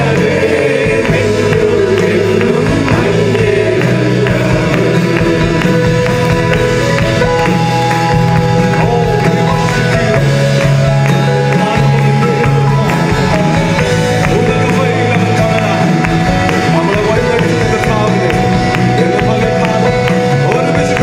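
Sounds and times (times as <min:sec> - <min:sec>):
group singing worship song: 0:00.0 - 0:21.0
keyboard accompaniment: 0:00.0 - 0:21.0
steady beat: 0:00.0 - 0:21.0.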